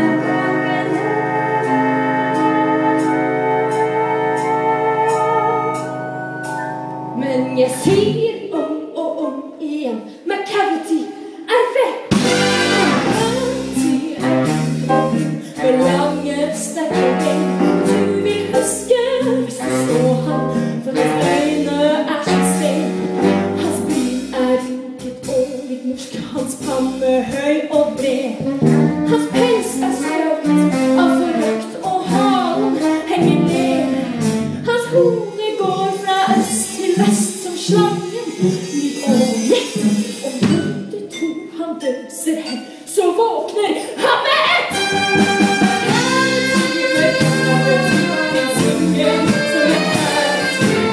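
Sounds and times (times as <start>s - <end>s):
live band playing with singers: 0.0s - 8.5s, 12.1s - 41.6s, 43.8s - 50.9s.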